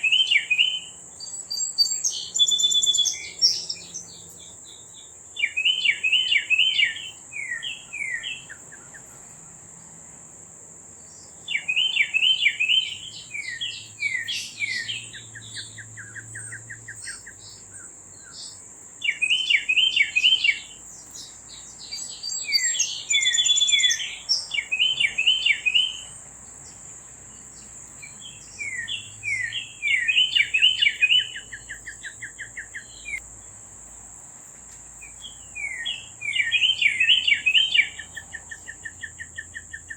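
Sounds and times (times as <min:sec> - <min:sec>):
songbird whistling and trilling: 0:00.0 - 0:08.9, 0:11.4 - 0:26.2, 0:28.0 - 0:33.2, 0:35.2 - 0:39.9.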